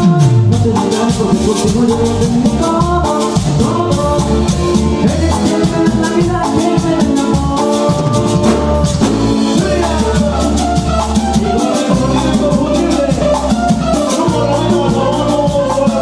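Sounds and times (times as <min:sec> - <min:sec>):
latin band playing: 0:00.0 - 0:16.0.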